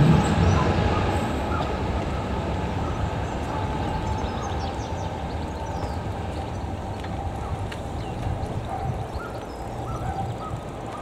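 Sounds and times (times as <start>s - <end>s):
diesel train rumble: 0.0s - 11.0s.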